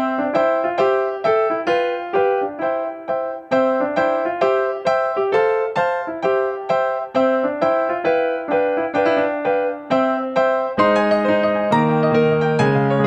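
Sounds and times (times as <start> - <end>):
electric piano melody: 0.0 - 13.0.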